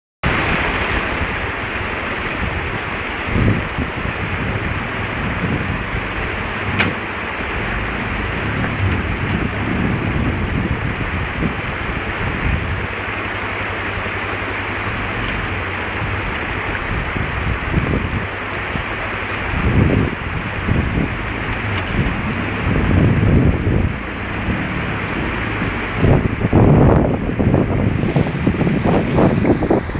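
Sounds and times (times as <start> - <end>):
creek water rushing over rocks: 0.2 - 29.9
quad engine running unevenly: 2.2 - 29.9.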